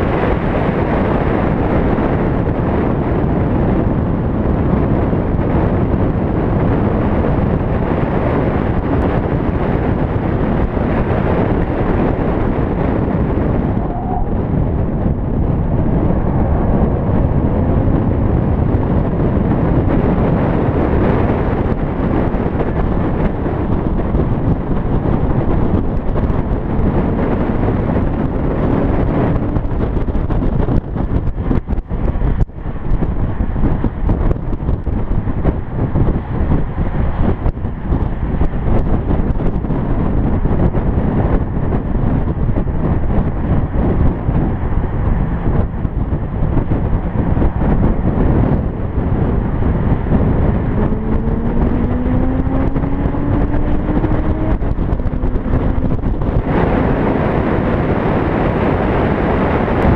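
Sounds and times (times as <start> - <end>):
car engine: 0.0 - 59.9
wind buffeting microphone: 0.0 - 59.9.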